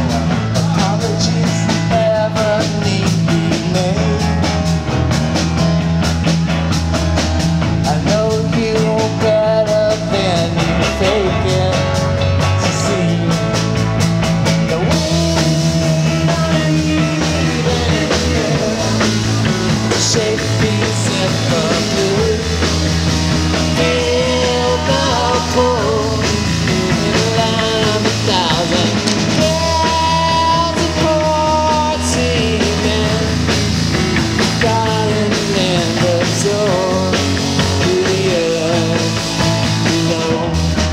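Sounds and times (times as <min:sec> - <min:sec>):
acoustic guitar: 0:00.0 - 0:40.9
drum kit: 0:00.0 - 0:40.9
electric guitar: 0:00.0 - 0:40.9
keyboard: 0:00.0 - 0:40.9.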